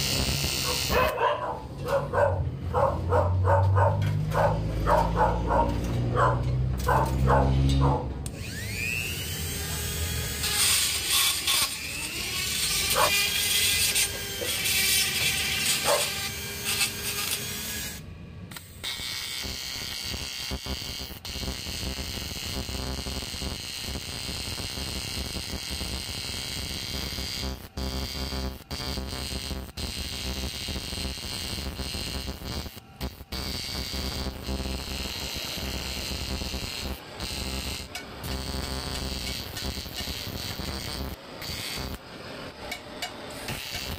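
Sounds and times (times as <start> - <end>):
power tool whirring: 0.0 - 1.2, 4.0 - 43.9
welding arc humming: 0.0 - 43.9.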